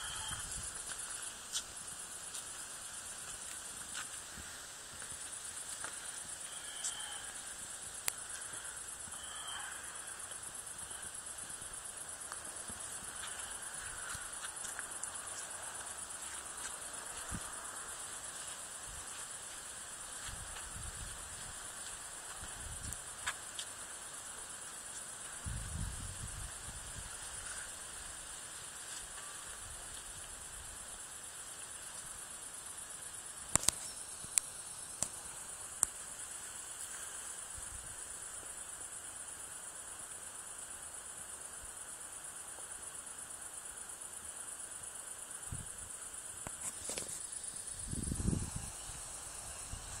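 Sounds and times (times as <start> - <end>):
crickets chirring: 0.0 - 50.0.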